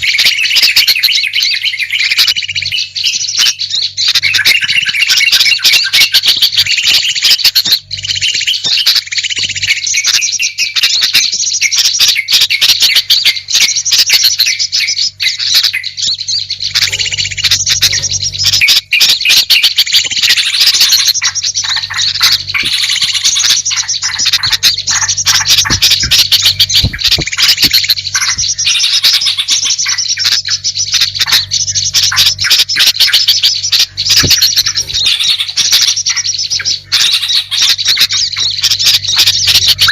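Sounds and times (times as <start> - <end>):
faint low hum: 0.0 - 39.9
small birds chirping: 0.0 - 39.9.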